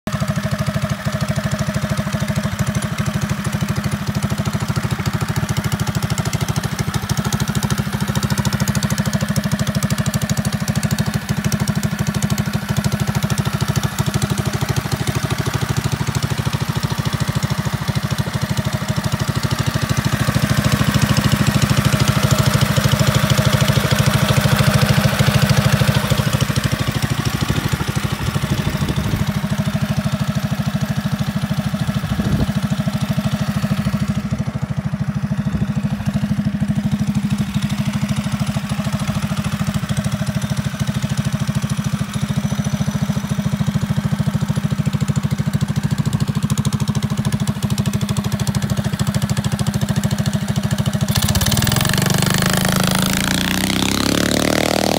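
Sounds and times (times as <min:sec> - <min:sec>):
engine idling: 0:00.1 - 0:54.9.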